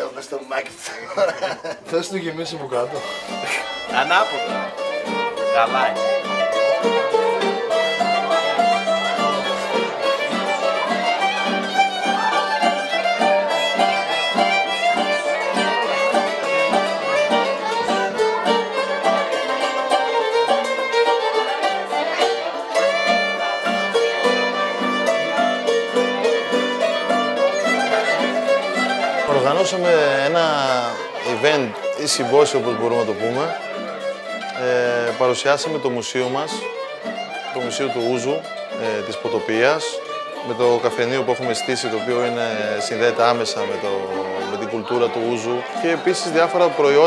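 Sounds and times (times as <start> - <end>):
folk band playing: 0.0 - 47.0
violin melody: 0.0 - 47.0.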